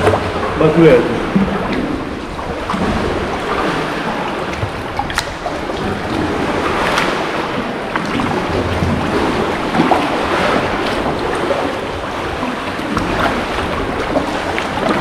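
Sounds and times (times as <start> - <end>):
paddle splashes: 0.0 - 15.0
water sloshing around kayak: 0.0 - 15.0.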